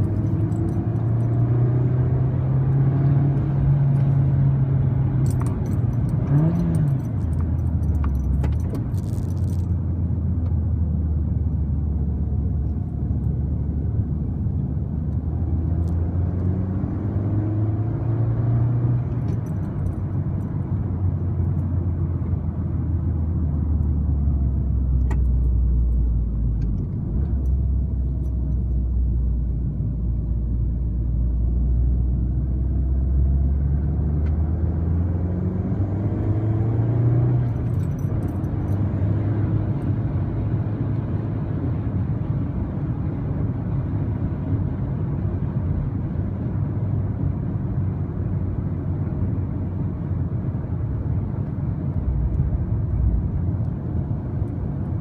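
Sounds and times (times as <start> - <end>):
car engine drone in cabin: 0.0 - 55.0
road noise: 0.0 - 55.0.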